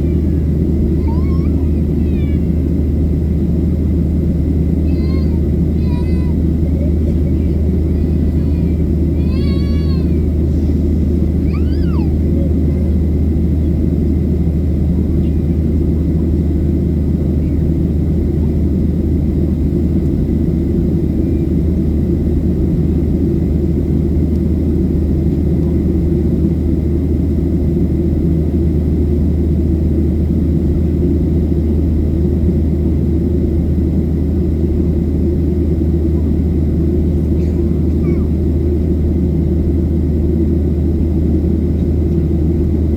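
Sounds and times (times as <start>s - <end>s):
jet cabin engine drone: 0.0s - 42.9s.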